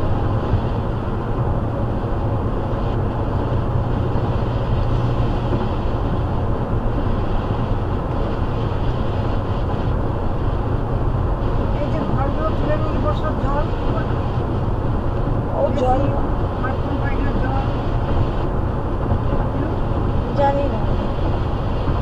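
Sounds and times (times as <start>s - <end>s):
car road and tyre noise: 0.0s - 22.0s.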